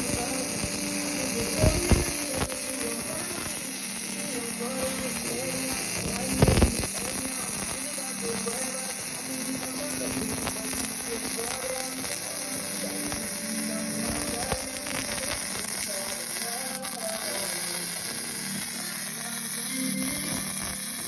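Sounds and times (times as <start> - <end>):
faint humming tones: 0.0 - 21.0
welding arc crackling: 0.0 - 21.0.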